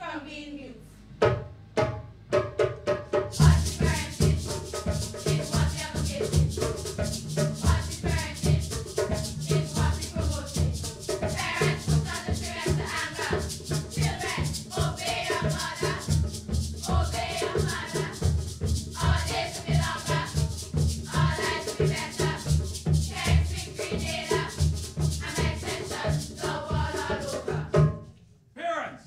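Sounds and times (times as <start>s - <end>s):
rattling percussion: 1.8s - 28.1s
steady drum beat: 2.3s - 28.0s
girls singing together: 3.4s - 27.8s.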